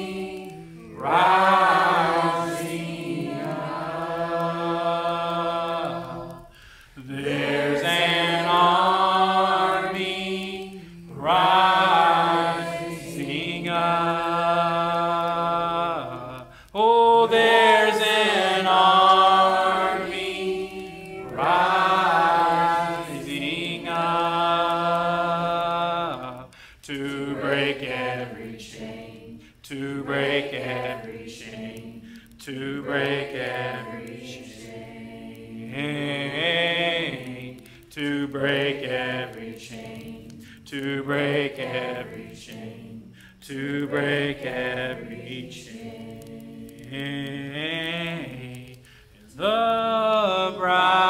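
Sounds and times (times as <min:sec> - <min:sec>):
voices singing a worship song: 0:00.0 - 0:51.0.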